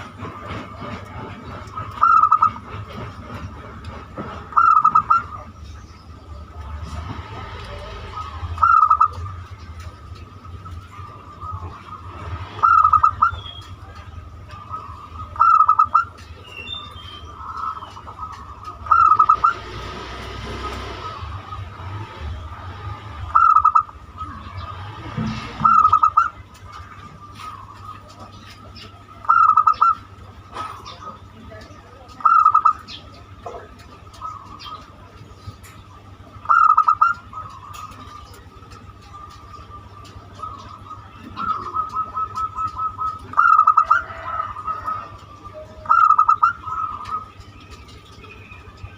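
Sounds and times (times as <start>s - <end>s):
dove cooing: 0.0s - 5.6s, 7.6s - 16.4s, 17.2s - 31.2s, 32.2s - 48.8s
small birds twittering: 0.0s - 48.9s.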